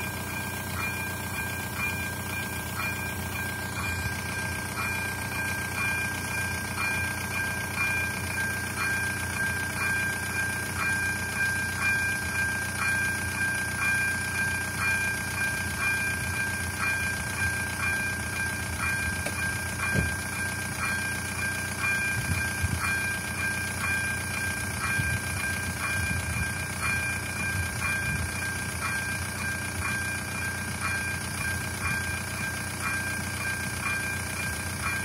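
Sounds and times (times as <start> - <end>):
level crossing warning bell: 0.0 - 35.0.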